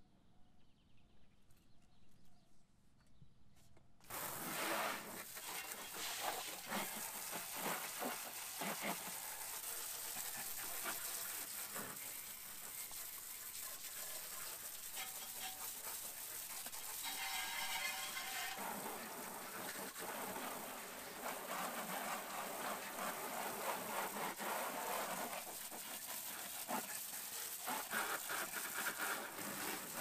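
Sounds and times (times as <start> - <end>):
water spraying: 4.0 - 30.0.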